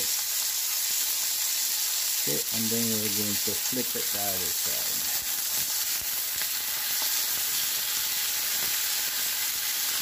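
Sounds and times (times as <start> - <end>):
steaks sizzling in hot oil: 0.0 - 10.0.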